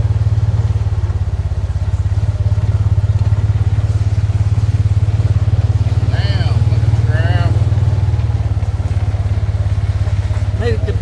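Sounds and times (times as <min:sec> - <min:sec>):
engine running with low pulse: 0:00.0 - 0:11.0.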